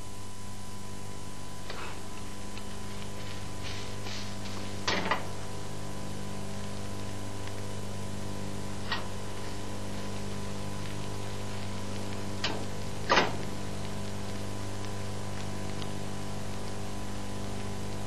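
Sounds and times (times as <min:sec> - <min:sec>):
electrical hum with hiss: 0:00.0 - 0:18.0.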